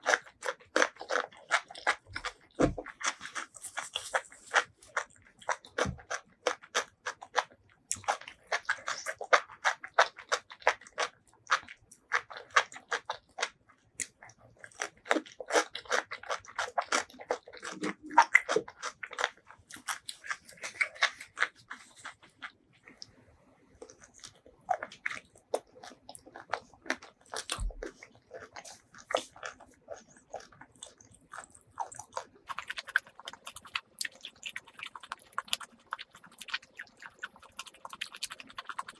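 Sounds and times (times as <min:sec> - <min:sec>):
chewing noodles: 0:00.0 - 0:38.9.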